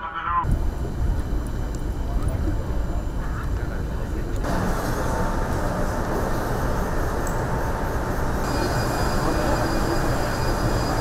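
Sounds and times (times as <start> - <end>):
high-pitched whine: 0.0 - 11.0.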